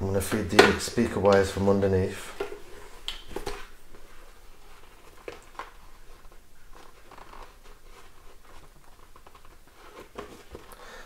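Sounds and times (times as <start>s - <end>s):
wire rustling against foam: 0.3s - 11.0s.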